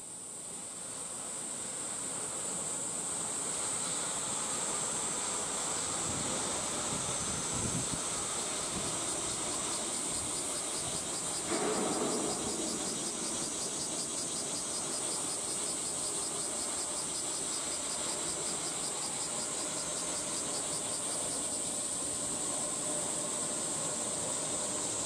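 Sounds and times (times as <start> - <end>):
cicadas droning: 0.0 - 25.0.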